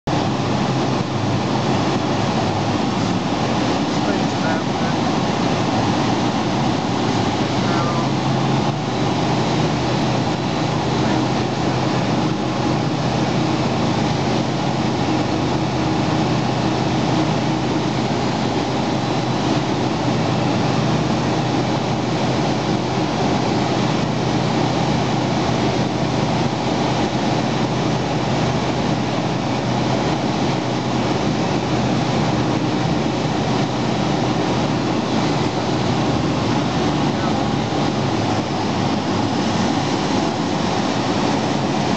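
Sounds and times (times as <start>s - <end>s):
aircraft engine and propeller: 0.0s - 41.9s
rushing air: 0.0s - 41.9s.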